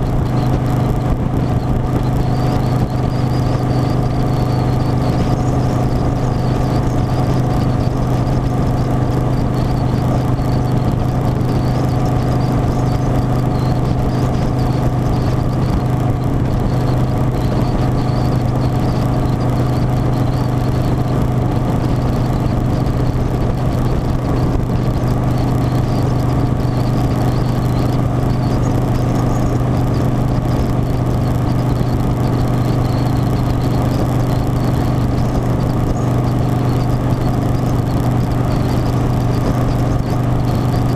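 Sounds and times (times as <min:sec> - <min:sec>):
faint high wavering whine: 0:00.0 - 0:40.9
motorcycle engine hum: 0:00.0 - 0:40.9.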